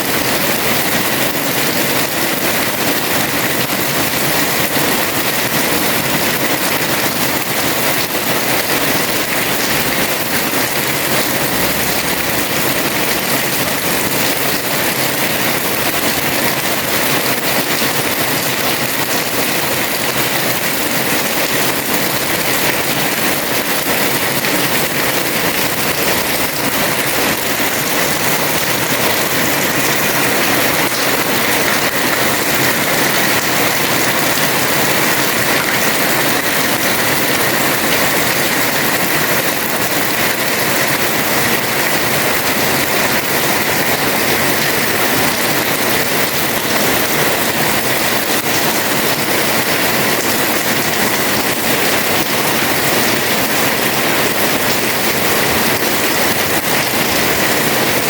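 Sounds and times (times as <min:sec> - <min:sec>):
heavy rain on a terrace: 0:00.0 - 0:58.0.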